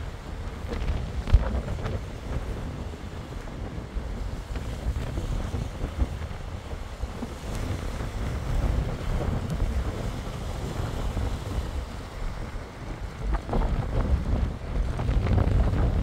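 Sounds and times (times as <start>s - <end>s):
choppy storm waves: 0.0s - 16.0s
gusty wind buffeting microphone: 0.0s - 16.0s.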